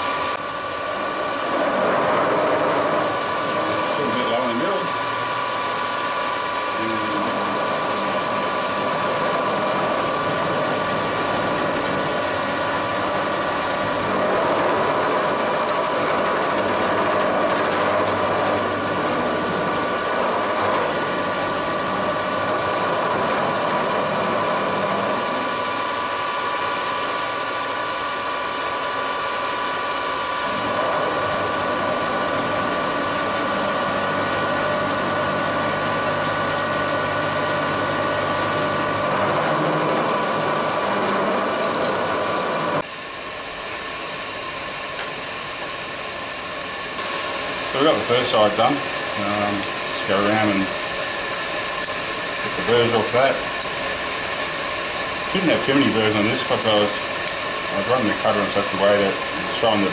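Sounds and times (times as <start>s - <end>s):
end mill cutting metal: 0.0s - 42.9s, 47.0s - 59.9s
milling machine whine: 0.0s - 59.9s.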